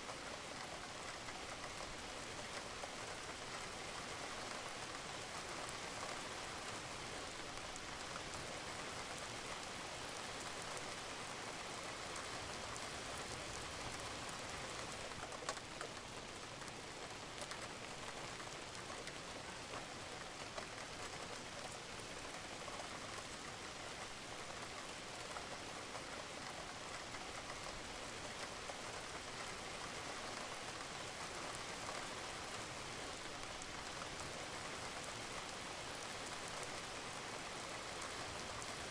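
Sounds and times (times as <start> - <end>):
rain falling on a roof: 0.0 - 38.9
raindrop ticks: 0.0 - 38.9.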